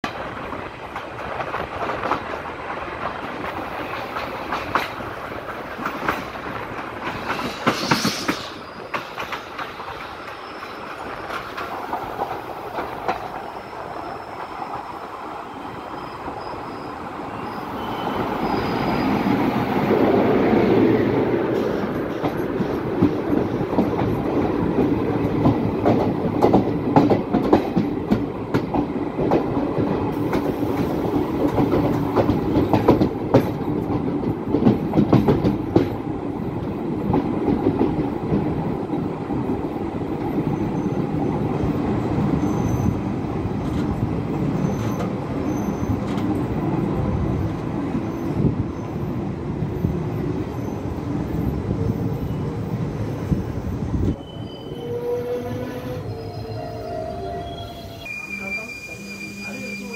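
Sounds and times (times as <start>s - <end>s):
train wheels clattering over rails: 0.0s - 14.9s, 17.8s - 51.6s
freight train passing: 0.0s - 59.9s.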